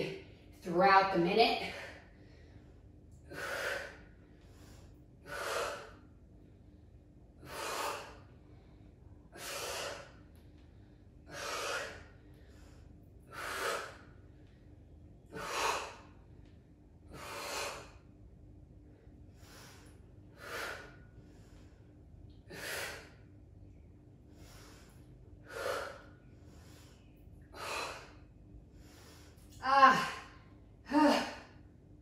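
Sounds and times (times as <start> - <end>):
woman breathing hard: 1.6 - 18.2, 19.0 - 23.3, 24.3 - 31.7.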